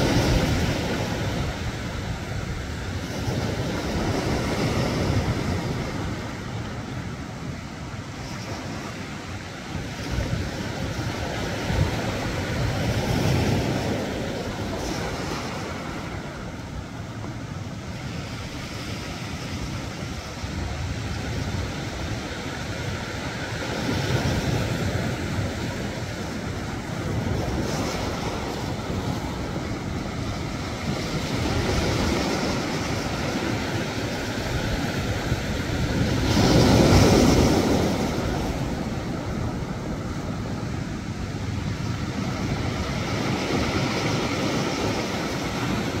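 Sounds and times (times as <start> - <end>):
sea waves breaking on rocks: 0.0 - 46.0.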